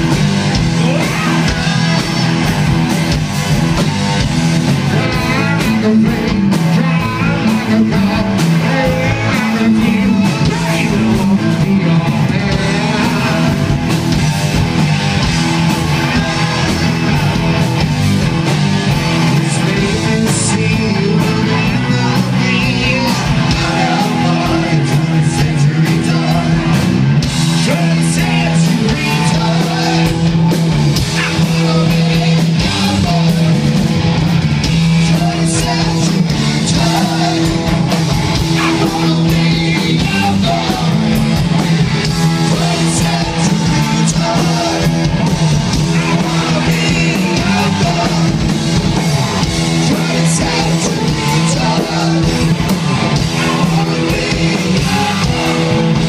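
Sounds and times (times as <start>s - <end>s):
person singing: 0.0s - 2.7s, 4.9s - 14.0s, 19.2s - 30.4s, 31.0s - 33.8s, 34.6s - 56.0s
drum kit: 0.0s - 56.0s
electric guitars: 0.0s - 56.0s.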